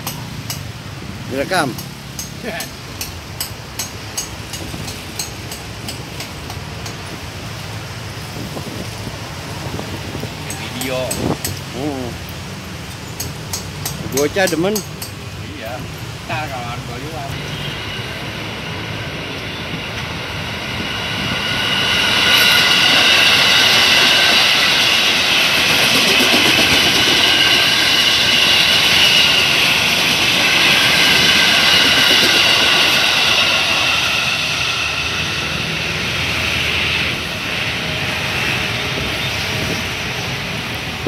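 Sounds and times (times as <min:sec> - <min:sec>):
electric train wheels rumbling: 0:00.0 - 0:41.0
train high whine: 0:00.0 - 0:41.0.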